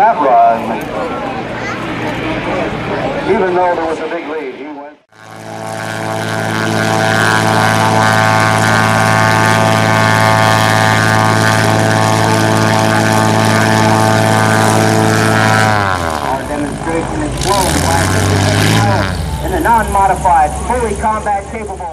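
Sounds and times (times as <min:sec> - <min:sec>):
propeller aircraft droning: 0:00.0 - 0:21.9.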